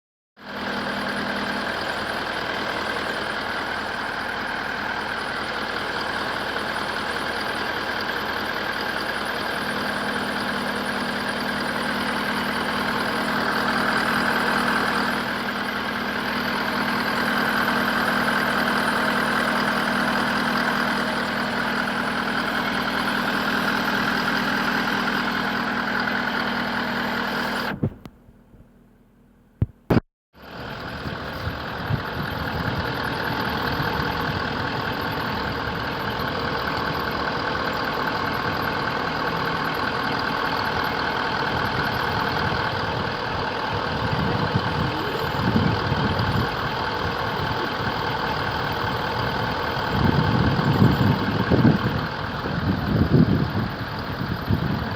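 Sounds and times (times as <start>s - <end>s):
car engine idling: 0.4s - 28.5s, 29.6s - 54.9s.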